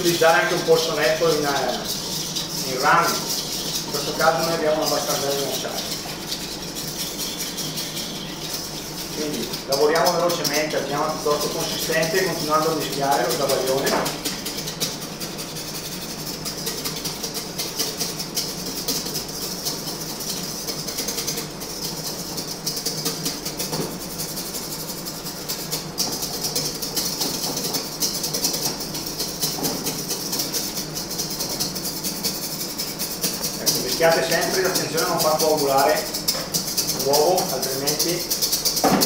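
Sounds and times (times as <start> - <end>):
whisk scraping a metal bowl: 0.0 - 39.0.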